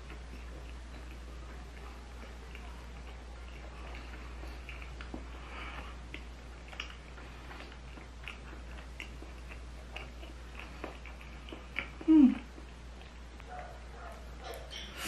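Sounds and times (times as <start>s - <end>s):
wet chewing clicks and smacks: 0.0s - 15.0s.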